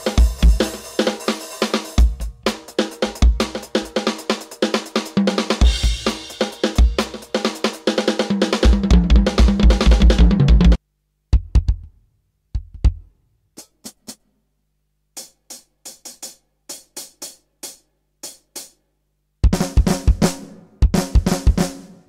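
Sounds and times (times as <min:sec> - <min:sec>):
full drum kit groove: 0:00.0 - 0:11.9, 0:12.5 - 0:14.2, 0:15.1 - 0:18.8, 0:19.4 - 0:22.0.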